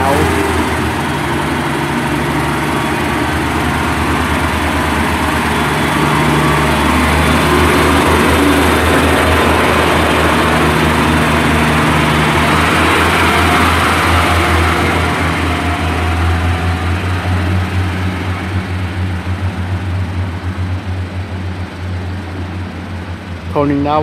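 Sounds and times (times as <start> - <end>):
diesel train engine running: 0.0 - 24.0.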